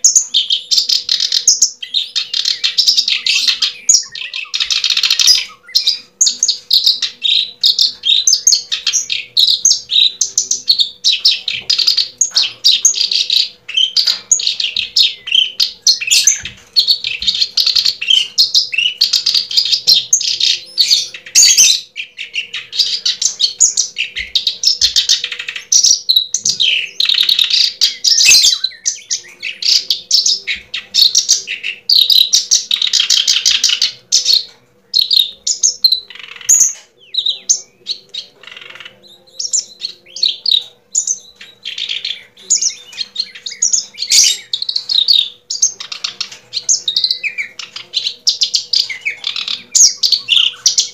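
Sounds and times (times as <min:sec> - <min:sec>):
birds chirping and twittering: 0:00.0 - 0:50.9.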